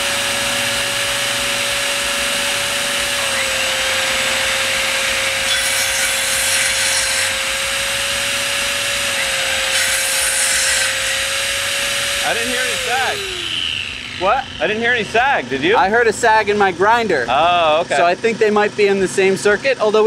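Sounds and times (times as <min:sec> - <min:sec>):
angle grinder running: 0:00.0 - 0:18.2
circular saw cutting wood: 0:00.0 - 0:19.3
air compressor running: 0:00.0 - 0:20.0.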